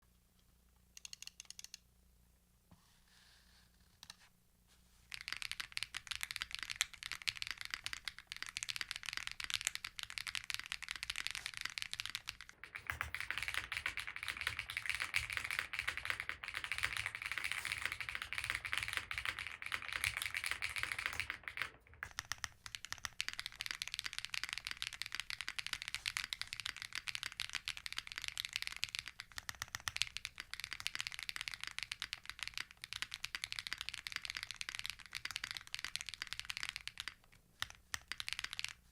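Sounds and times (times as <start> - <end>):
mechanical keyboard typing: 1.0 - 1.8, 5.1 - 38.9.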